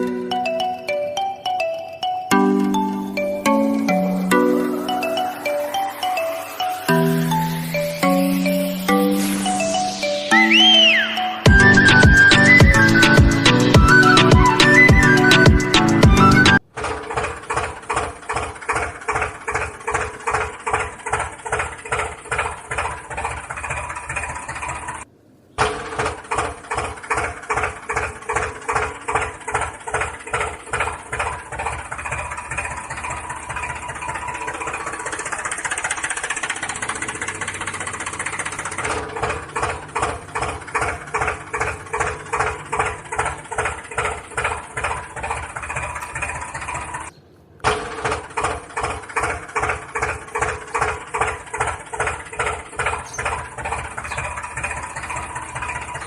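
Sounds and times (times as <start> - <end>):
tractor engine chugging: 0.0 - 56.0.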